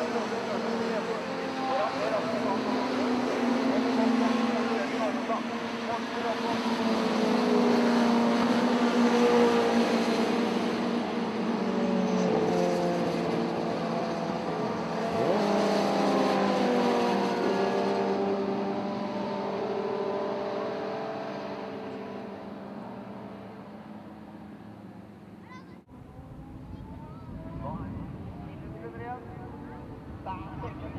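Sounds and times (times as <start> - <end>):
racing car engines: 0.0 - 30.9.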